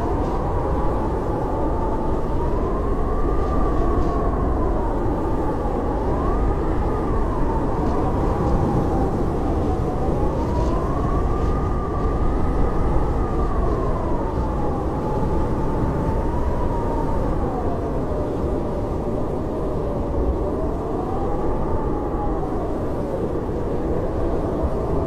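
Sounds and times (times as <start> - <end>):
howling blizzard wind: 0.0 - 25.0.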